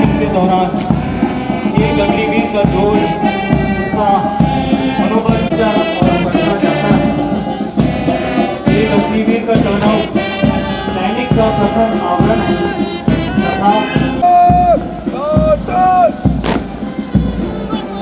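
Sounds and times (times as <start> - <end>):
drum strikes: 0.0 - 17.4
brass band music: 0.0 - 18.0.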